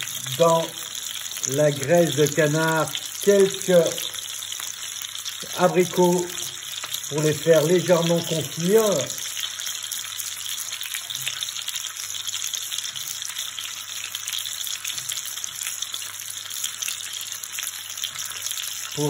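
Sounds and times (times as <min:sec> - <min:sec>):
fat sizzling in a frying pan: 0:00.0 - 0:19.0
light crackling in hot fat: 0:00.0 - 0:19.0.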